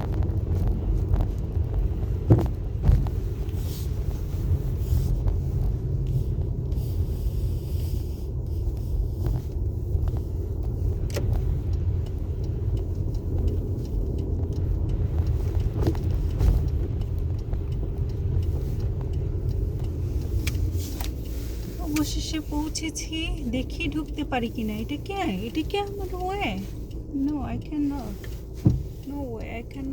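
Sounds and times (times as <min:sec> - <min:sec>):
car engine running: 0:00.0 - 0:29.9
road rumble: 0:00.0 - 0:29.9.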